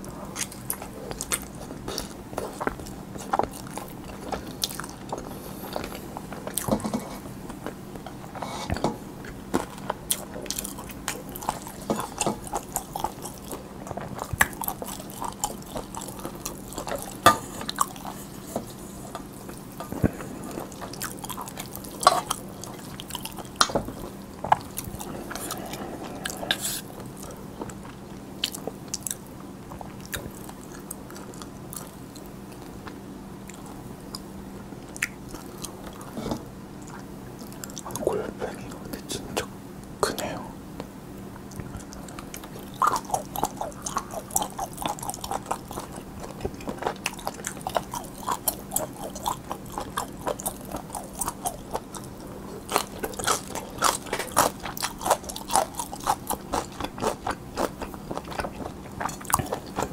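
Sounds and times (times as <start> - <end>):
chewing noodles with crunches: 0.0 - 38.2, 41.4 - 59.9.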